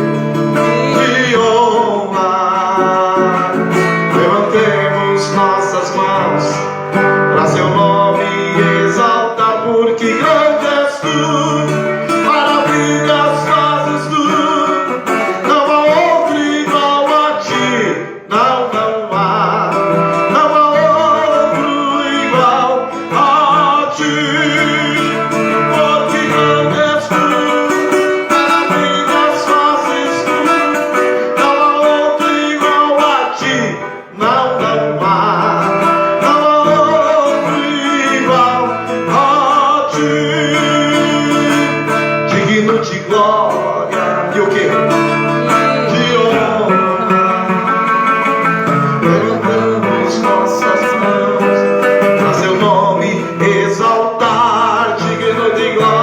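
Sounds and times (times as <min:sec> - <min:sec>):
acoustic guitar melody over chords: 0:00.0 - 0:56.0.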